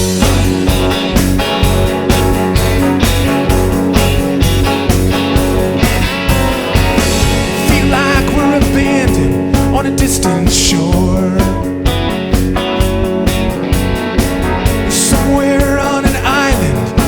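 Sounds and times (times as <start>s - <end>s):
rock band playing live: 0.0s - 17.0s
wavering guitar or voice line: 0.0s - 17.0s.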